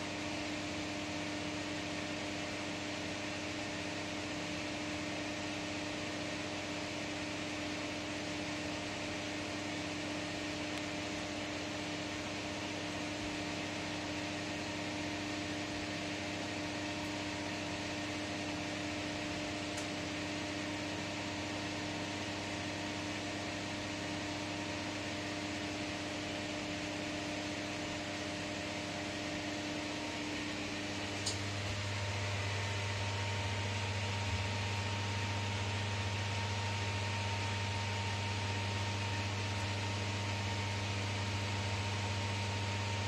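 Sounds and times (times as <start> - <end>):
fan humming: 0.0 - 5.4, 6.1 - 43.0.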